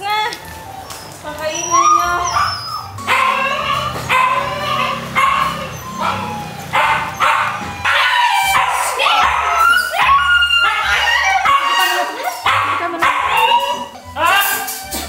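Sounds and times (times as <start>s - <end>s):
puppy crying: 0.3s - 15.0s.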